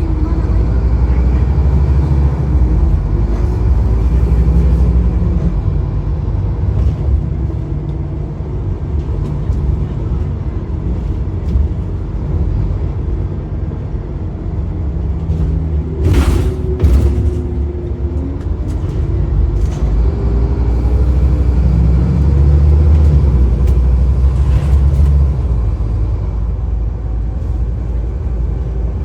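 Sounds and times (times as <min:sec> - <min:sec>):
bus diesel engine rumbling: 0:00.0 - 0:29.0.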